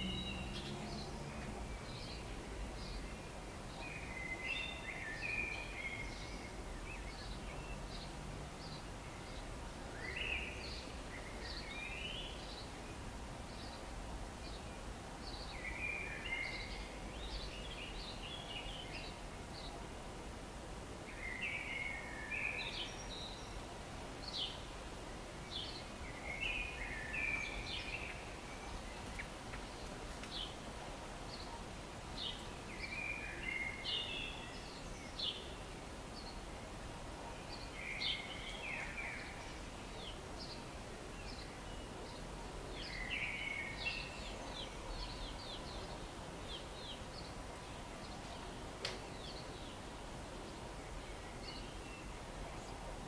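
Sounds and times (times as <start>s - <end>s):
songbird singing: 0.0s - 19.8s, 21.1s - 52.9s
steady background hiss: 0.0s - 53.0s.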